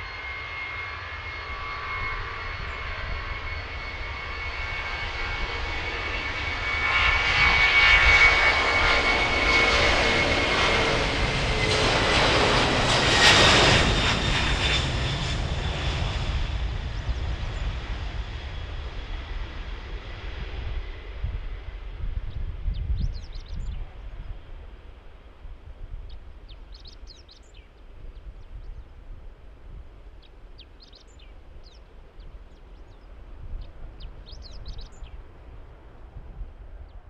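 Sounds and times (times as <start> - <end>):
jet engines passing by: 0.0 - 37.0.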